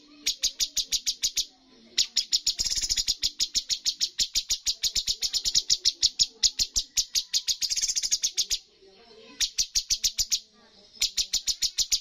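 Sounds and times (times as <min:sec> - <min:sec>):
bird singing rapid high notes: 0:00.0 - 0:12.0.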